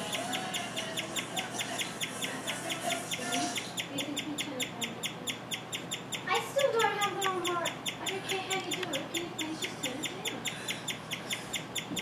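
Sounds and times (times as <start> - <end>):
guinea pig chirping: 0.0 - 12.0.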